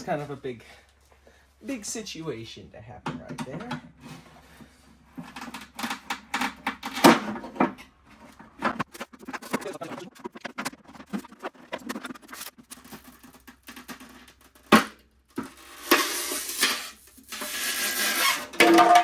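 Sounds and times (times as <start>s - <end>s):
plastic clicking and creaking: 3.0s - 19.0s
scraping and rustling: 3.3s - 19.0s.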